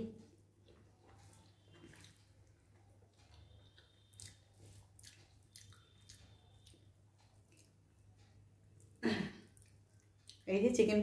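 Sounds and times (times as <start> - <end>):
person chewing: 0.6 - 10.4.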